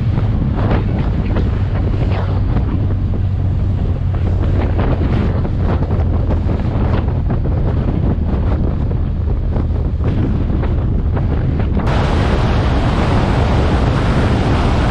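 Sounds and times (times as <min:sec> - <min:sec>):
motorcycle engine drone: 0:00.0 - 0:14.9
wind buffeting microphone: 0:00.0 - 0:14.9.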